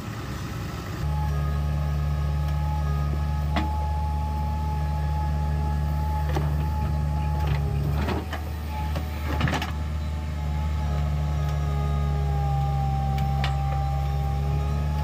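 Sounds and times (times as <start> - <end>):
diesel engine running under load: 0.0 - 15.0
high hydraulic whine: 0.0 - 15.0.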